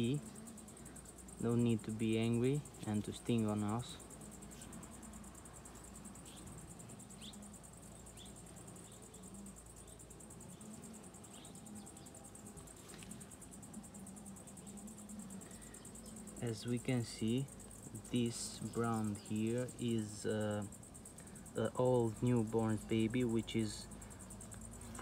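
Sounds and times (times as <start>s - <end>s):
high-pitched insect trill: 0.0s - 25.0s
honeybees buzzing: 0.0s - 25.0s.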